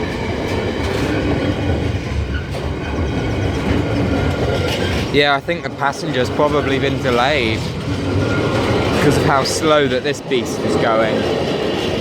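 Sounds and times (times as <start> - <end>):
freight train rumbling: 0.0 - 12.0
wheels clicking over rails: 0.0 - 12.0.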